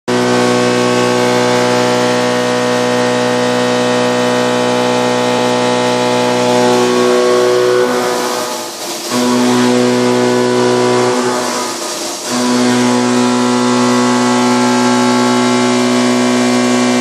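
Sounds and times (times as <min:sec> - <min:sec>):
milling machine cutting steel: 0:00.1 - 0:17.0.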